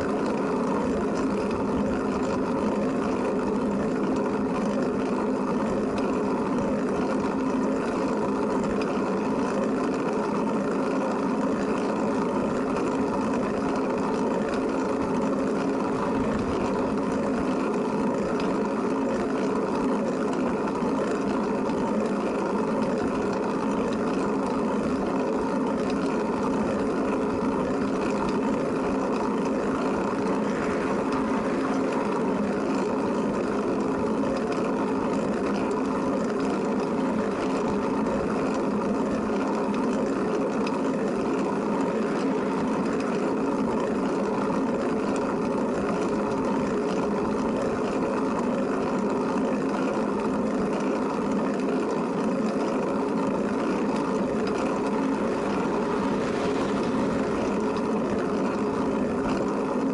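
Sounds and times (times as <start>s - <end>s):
tricycle humming and whirring: 0.0s - 59.9s.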